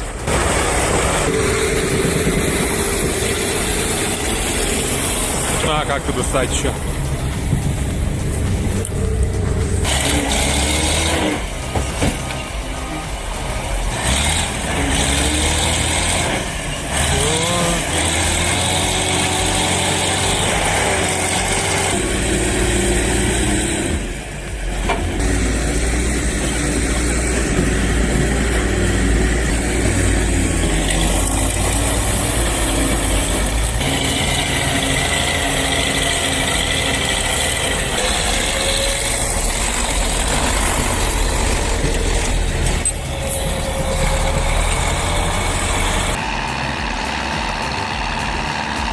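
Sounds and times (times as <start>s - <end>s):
heavy diesel machinery working: 0.0s - 48.9s.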